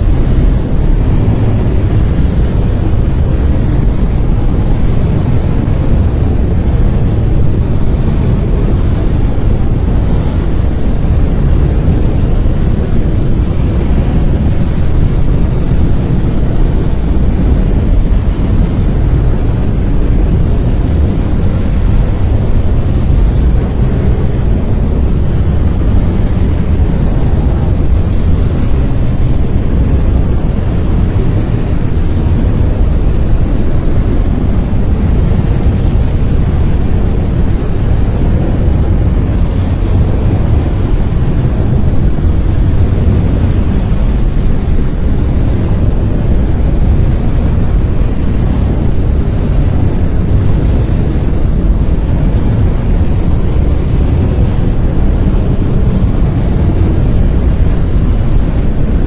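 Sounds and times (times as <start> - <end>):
deep rumbling brown noise: 0.0 - 59.0.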